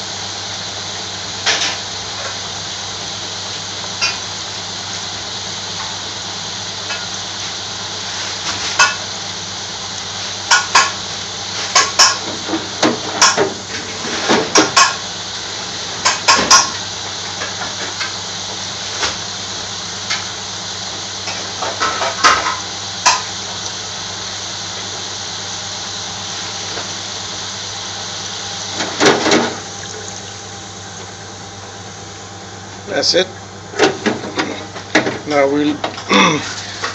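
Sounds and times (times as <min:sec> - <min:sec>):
fries sizzling in oil: 0:00.0 - 0:36.9.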